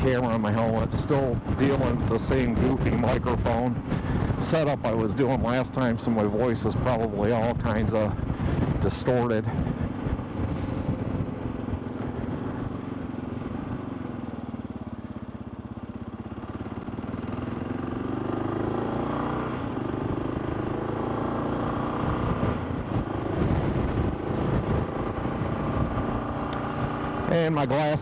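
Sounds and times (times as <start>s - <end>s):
motorcycle engine: 0.0s - 28.0s
wind and road rush: 0.0s - 28.0s.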